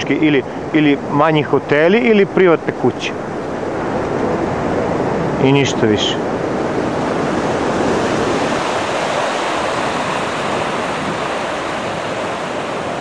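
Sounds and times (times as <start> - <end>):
surf washing on shore: 0.0 - 13.0.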